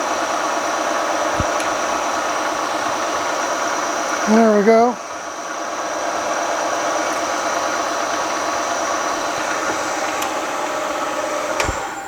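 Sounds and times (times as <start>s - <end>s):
milling machine drilling steel: 0.0s - 12.0s.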